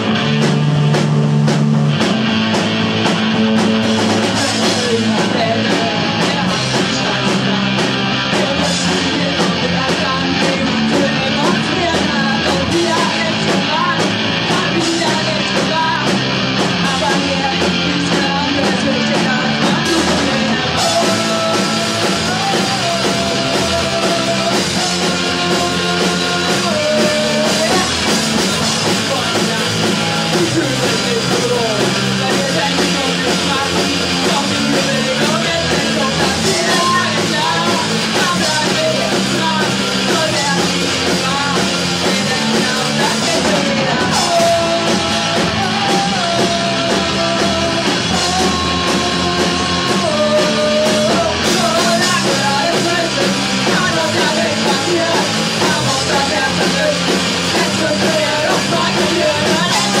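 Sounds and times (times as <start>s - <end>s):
punk rock song with singing: 0.0s - 60.0s.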